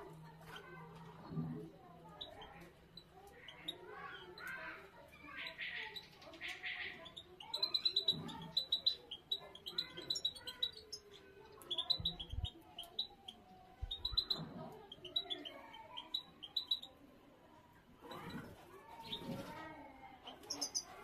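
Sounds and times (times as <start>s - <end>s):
cage birds chirping: 0.0s - 21.0s.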